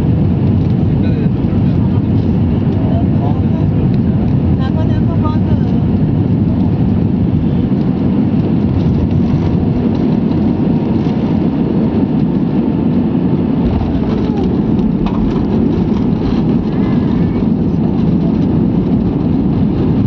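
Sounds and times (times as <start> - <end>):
jet engine and airflow rush in cabin: 0.0 - 20.0.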